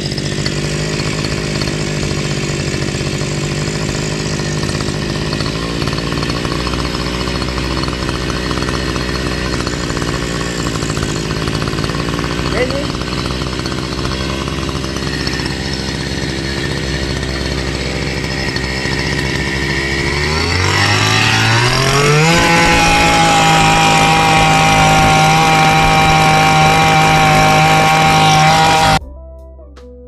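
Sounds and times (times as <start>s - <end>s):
small two-stroke engine: 0.0s - 29.0s.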